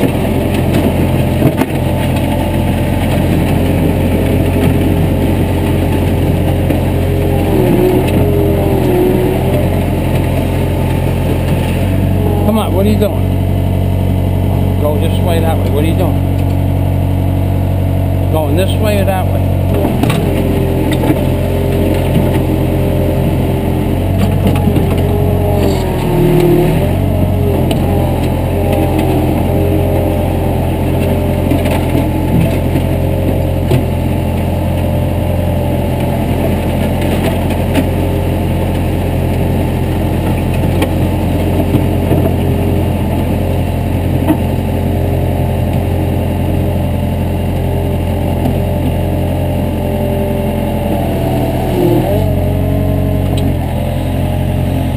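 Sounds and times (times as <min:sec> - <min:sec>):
heavy equipment engine running: 0:00.0 - 0:54.9.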